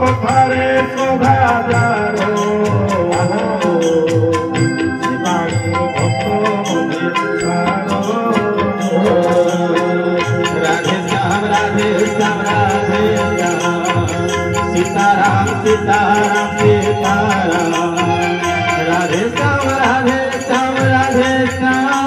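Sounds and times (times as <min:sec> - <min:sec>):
electronic keyboard melody: 0:00.0 - 0:22.0
tabla rhythm: 0:00.0 - 0:22.0.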